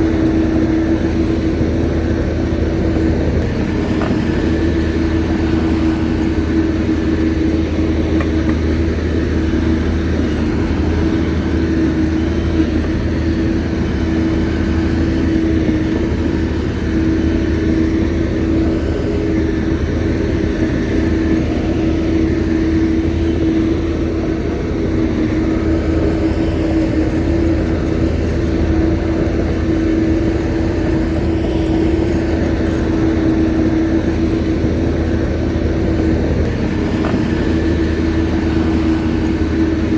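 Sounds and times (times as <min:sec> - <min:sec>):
bulldozer diesel engine humming: 0:00.0 - 0:39.9.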